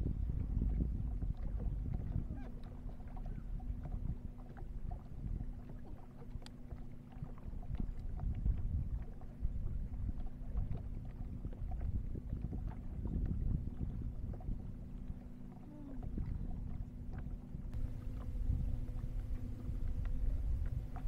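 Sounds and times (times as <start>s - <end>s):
wind on microphone: 0.0s - 6.0s, 6.7s - 21.0s
boat motor humming: 0.0s - 21.0s.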